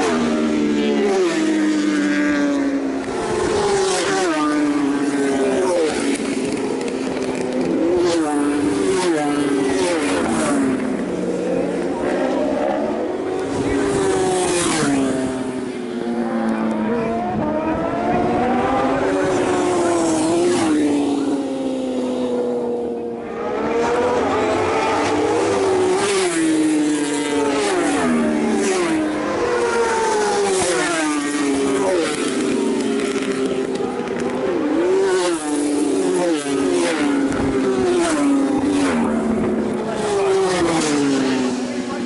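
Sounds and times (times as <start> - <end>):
racing motorcycles passing: 0.0 - 42.0.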